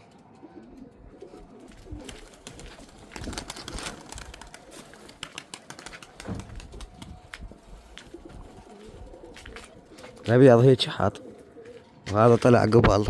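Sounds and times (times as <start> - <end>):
pigeons cooing softly: 0.0 - 12.7.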